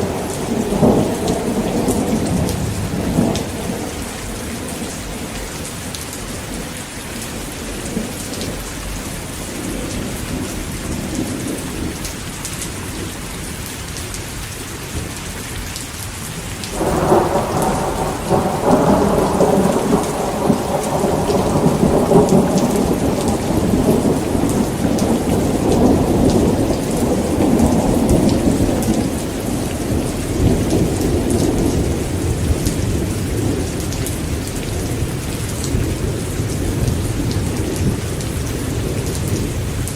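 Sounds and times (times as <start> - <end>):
thunderclap and deep rumble: 0.0 - 13.1, 16.7 - 39.9
heavy rain falling: 0.0 - 39.9.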